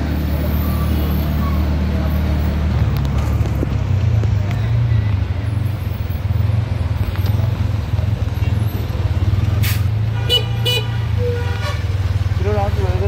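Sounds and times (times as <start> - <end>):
auto-rickshaw engine running: 0.0 - 13.0.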